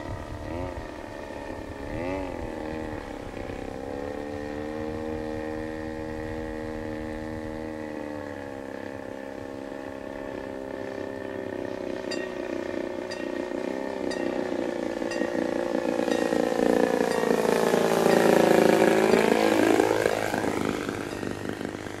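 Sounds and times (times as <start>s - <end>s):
model airplane engine: 0.0s - 22.0s.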